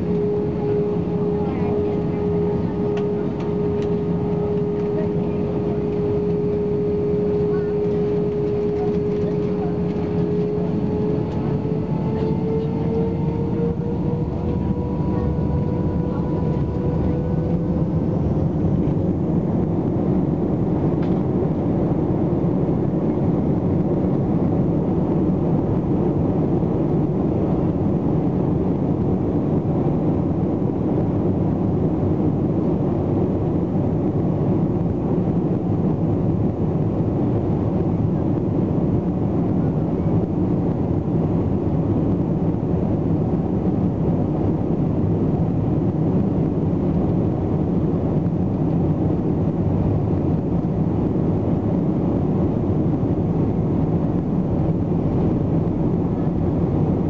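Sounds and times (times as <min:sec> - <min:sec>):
rolling noise of airliner: 0:00.0 - 0:57.0.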